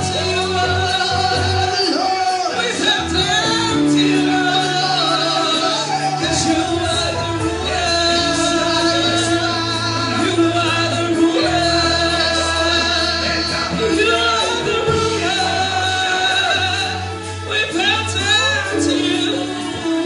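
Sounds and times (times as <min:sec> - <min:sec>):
worship music with singing: 0:00.0 - 0:20.0.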